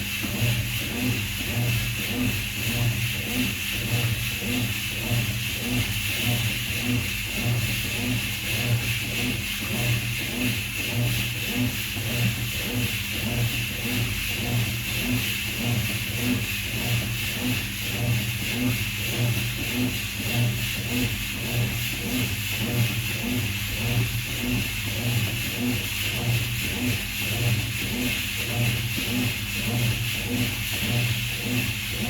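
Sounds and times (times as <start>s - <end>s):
washing machine agitating: 0.0s - 32.0s.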